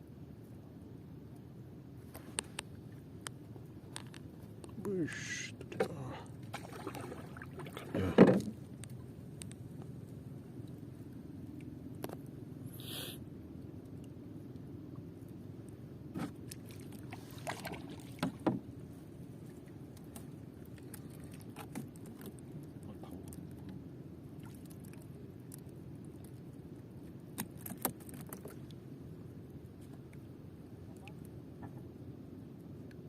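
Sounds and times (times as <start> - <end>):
small boat engine rumble: 0.0 - 33.0.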